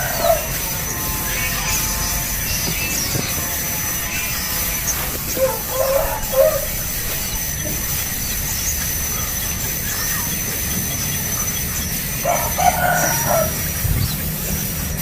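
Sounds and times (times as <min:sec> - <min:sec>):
birds chirping: 0:00.0 - 0:15.0
lower bird calls: 0:00.0 - 0:15.0
steady hiss: 0:00.0 - 0:15.0.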